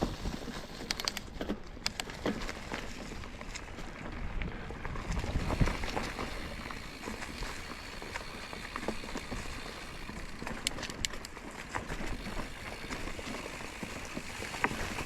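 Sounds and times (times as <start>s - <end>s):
bike clicks and knocks: 0.0s - 15.0s
bike tyres on rocky trail: 0.0s - 15.0s.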